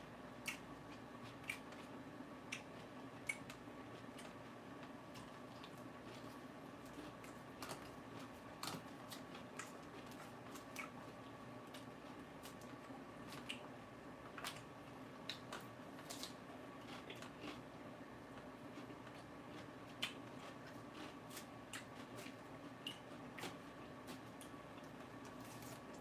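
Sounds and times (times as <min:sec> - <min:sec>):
low room hum: 0:00.0 - 0:26.0
lettuce crunching while chewed: 0:00.4 - 0:13.7, 0:14.3 - 0:26.0.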